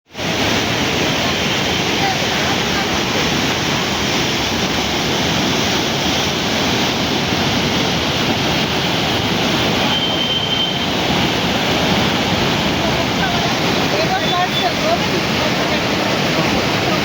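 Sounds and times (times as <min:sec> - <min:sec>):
river rushing in flood: 0:00.1 - 0:17.0.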